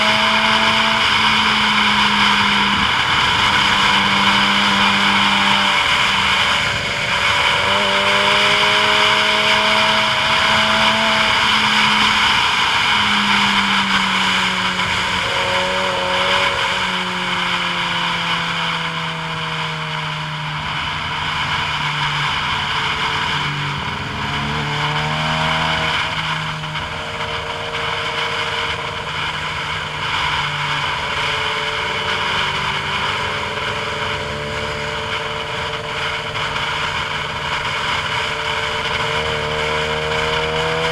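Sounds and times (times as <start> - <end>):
vehicle engine hum: 0.0 - 40.9
wind and road noise: 0.0 - 40.9.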